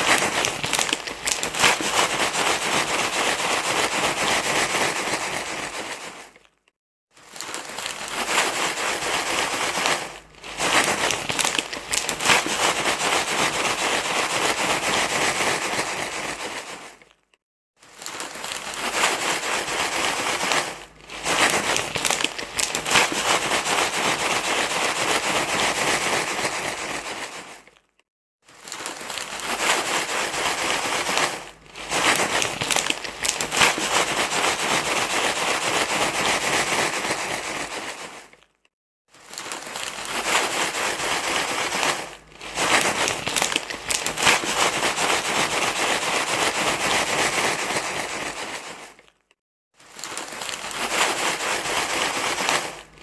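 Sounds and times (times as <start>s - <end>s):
crinkling rustling noise: 0.0s - 53.0s.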